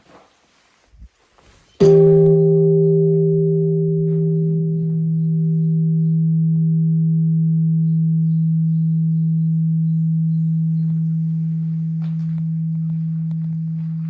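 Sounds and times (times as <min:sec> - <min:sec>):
temple bell ringing: 0:01.8 - 0:14.0.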